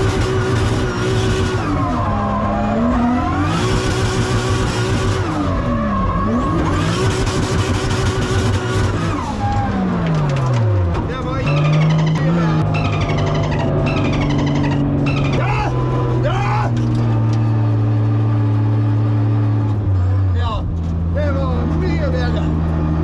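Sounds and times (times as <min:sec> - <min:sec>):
car engine revving: 0:00.0 - 0:23.0
tyres skidding: 0:00.0 - 0:23.0.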